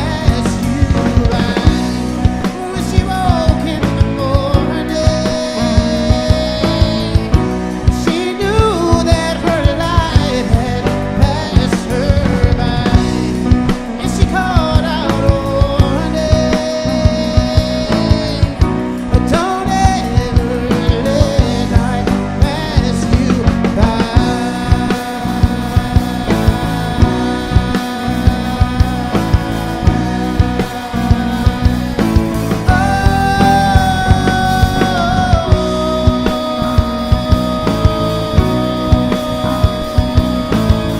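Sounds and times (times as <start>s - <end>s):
drum kit steady beat: 0.0s - 40.9s
guitars: 0.0s - 40.9s
lead vocal singing: 0.0s - 40.9s.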